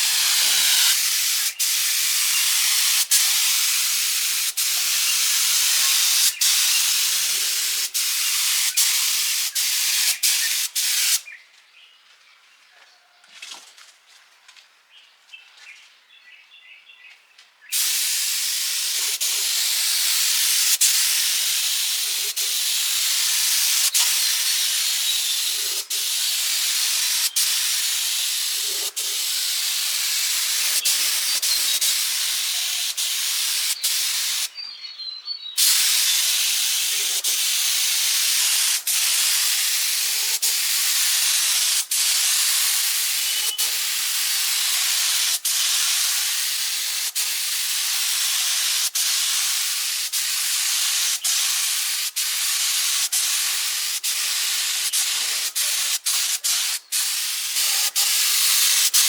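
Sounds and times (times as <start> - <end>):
compressed air hissing: 0.0 - 11.2, 17.8 - 34.5, 35.6 - 59.0.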